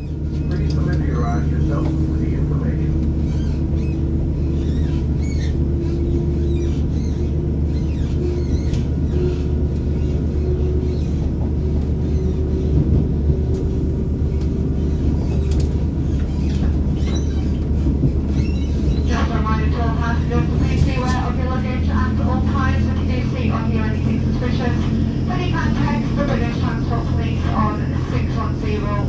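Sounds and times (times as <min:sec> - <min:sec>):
train diesel engine droning: 0:00.0 - 0:29.0.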